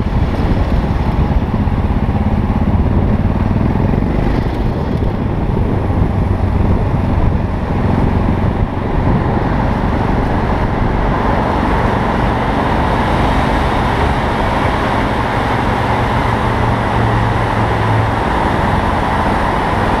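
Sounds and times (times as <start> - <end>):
motorcycle engine running: 0.0 - 20.0
traffic noise in tunnel: 0.0 - 20.0.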